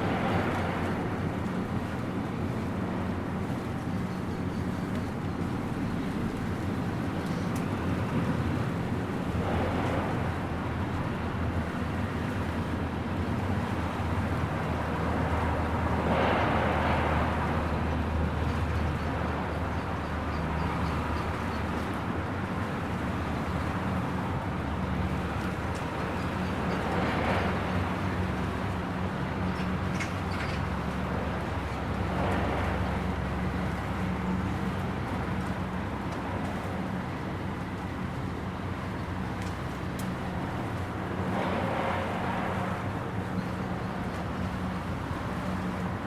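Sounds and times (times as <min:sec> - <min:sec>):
hiss of passing vehicles: 0:00.0 - 0:46.0
low traffic hum: 0:00.0 - 0:46.0
steady rain: 0:00.0 - 0:46.0.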